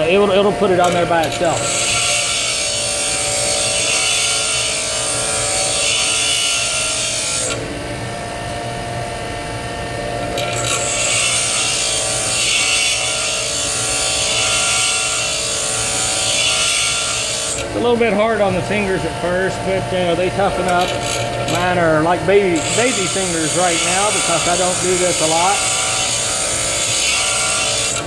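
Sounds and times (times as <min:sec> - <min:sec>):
metal grinding on wheel: 0:00.0 - 0:07.6, 0:10.3 - 0:28.0
bench grinder motor hum: 0:00.0 - 0:28.0.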